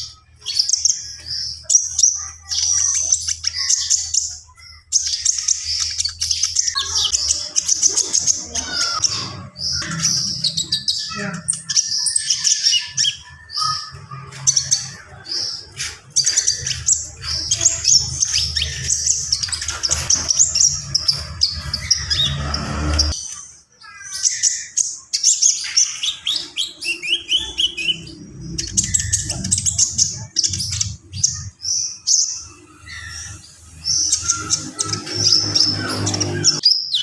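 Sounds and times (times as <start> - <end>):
songbird rapid chirps and trills: 0.0 - 37.0.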